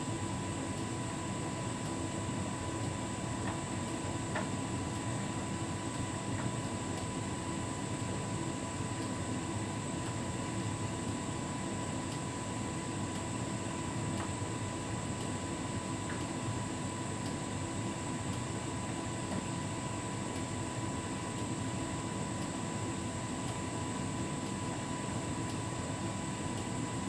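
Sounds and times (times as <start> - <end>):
tumble dryer drum and fan whirring: 0.0 - 27.0.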